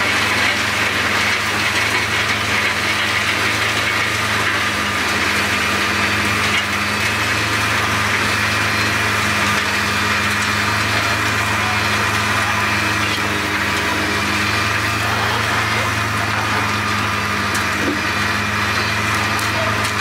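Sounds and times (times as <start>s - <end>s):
wood chipper running: 0.0s - 20.0s.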